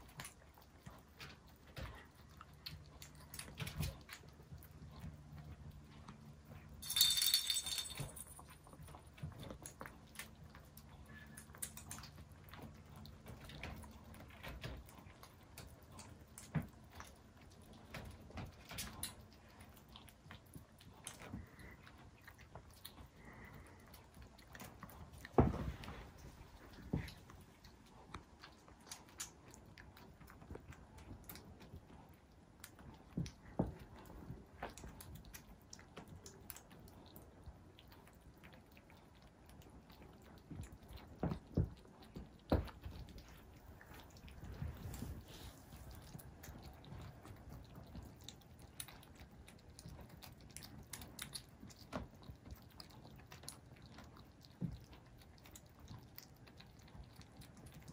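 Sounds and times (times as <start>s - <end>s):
kittens crunching kibble: 0.0s - 57.9s.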